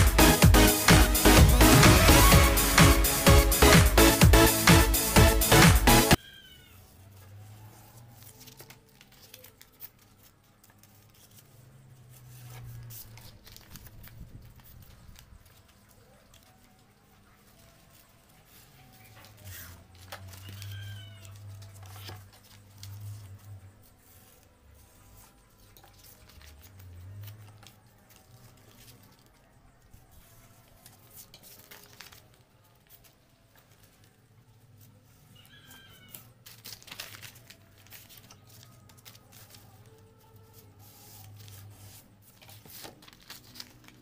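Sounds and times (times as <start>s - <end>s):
paper rustling and crinkling: 6.9s - 44.0s.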